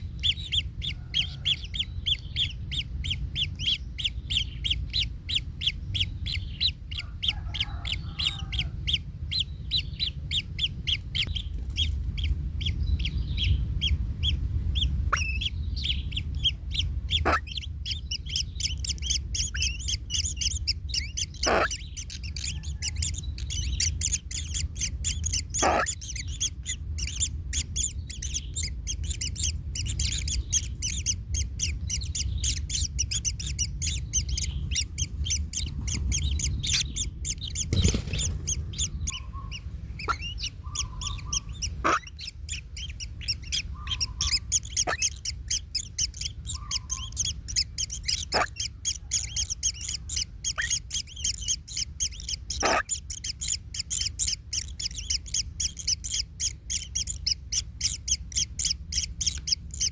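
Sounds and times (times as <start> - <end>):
low rumble: 0.0 - 59.9
nestlings chirping: 0.0 - 59.9.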